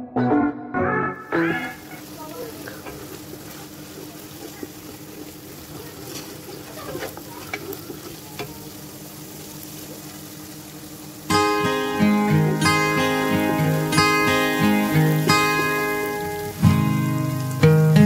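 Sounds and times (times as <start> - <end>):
sauce sizzling in a pot: 1.3 - 18.0.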